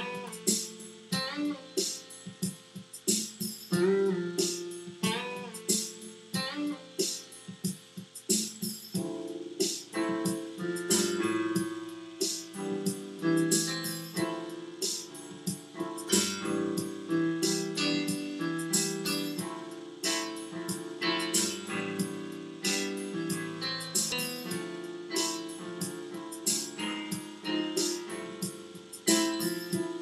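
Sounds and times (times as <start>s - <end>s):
keyboard chords over a beat: 0.0s - 30.0s.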